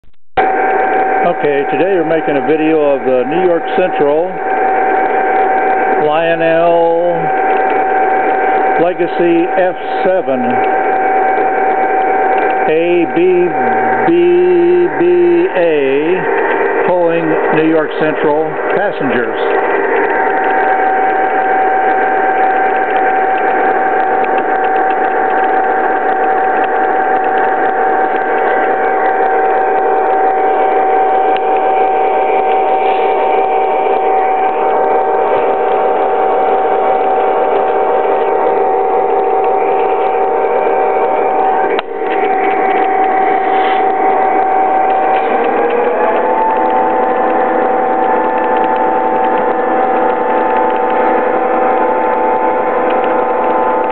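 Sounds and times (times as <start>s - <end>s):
model train humming: 0.4s - 53.9s.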